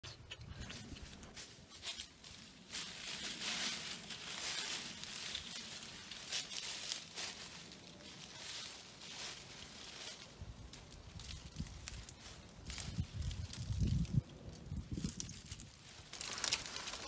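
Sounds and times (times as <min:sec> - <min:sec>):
leaves and twigs rustling and crackling: 0:00.3 - 0:17.0
footsteps on leaf litter: 0:00.7 - 0:17.0.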